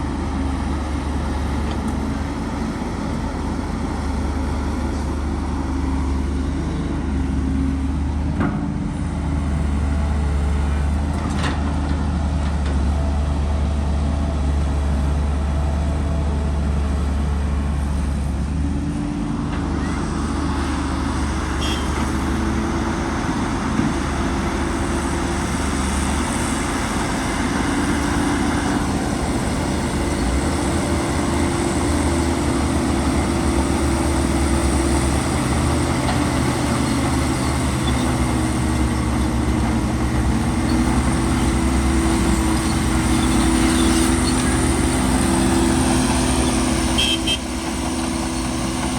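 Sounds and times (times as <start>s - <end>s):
heavy machinery diesel engine: 0.0s - 48.9s.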